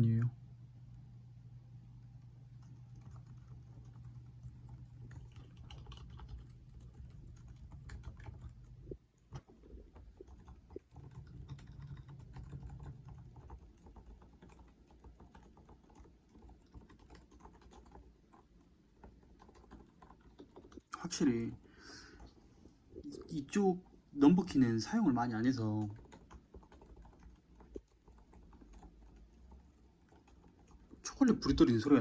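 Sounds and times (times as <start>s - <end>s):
low steady hum: 0.0s - 32.0s
soft muted keyboard typing: 1.9s - 23.6s, 24.4s - 32.0s.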